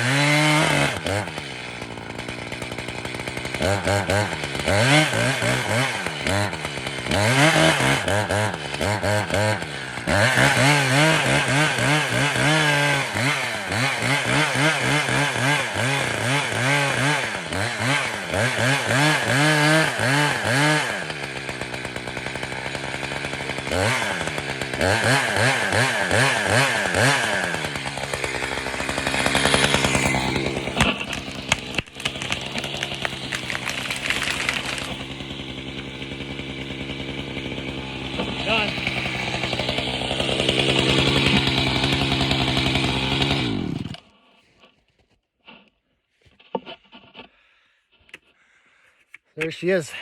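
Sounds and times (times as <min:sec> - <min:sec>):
chainsaw cutting wood: 0:00.0 - 0:47.5.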